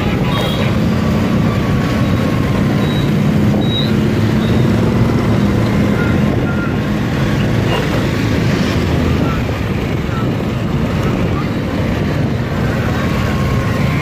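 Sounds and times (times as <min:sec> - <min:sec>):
motorbike engine hum: 0:00.0 - 0:14.0
road noise: 0:00.0 - 0:14.0.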